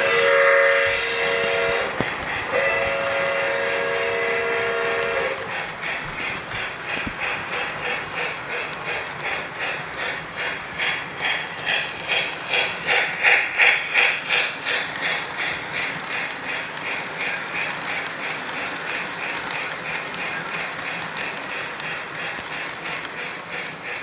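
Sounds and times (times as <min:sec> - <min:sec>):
model train clicking on track: 0:00.0 - 0:24.0.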